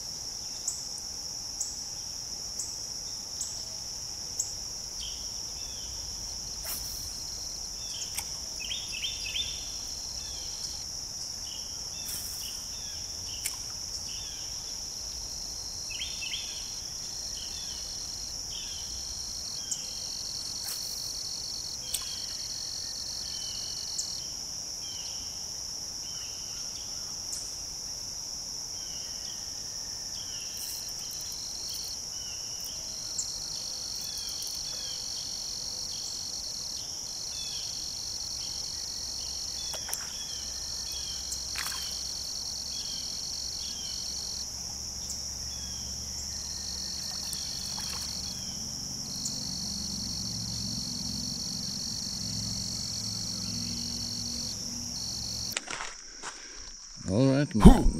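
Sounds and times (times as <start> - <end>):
high-pitched insect chorus drone: 0.0 - 57.9
lower insect trill: 0.0 - 57.9.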